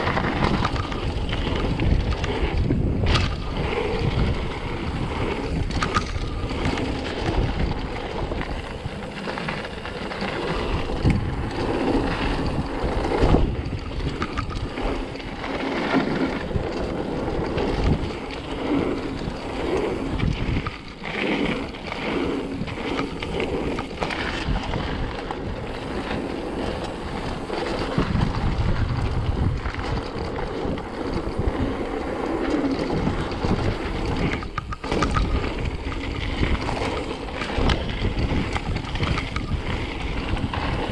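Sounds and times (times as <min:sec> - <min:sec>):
bike tyres rumbling: 0:00.0 - 0:40.9
wind buffeting microphone: 0:00.0 - 0:40.9.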